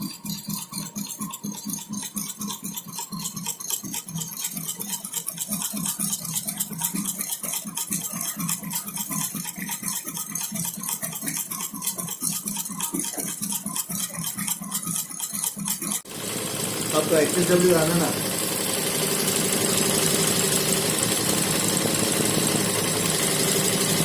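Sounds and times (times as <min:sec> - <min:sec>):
motor hum: 0:00.0 - 0:24.0
embroidery machine needle clatter: 0:00.1 - 0:24.0.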